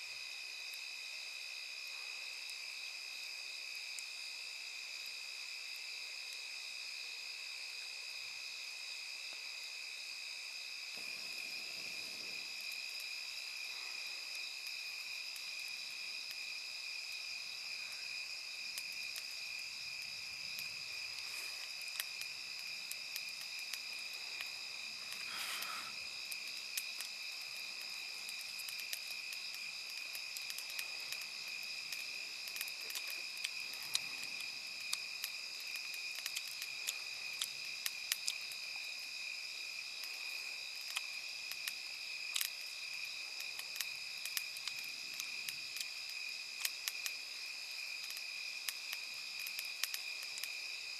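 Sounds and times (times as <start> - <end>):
crickets trilling: 0.0 - 50.9
campfire crackling: 0.1 - 50.9.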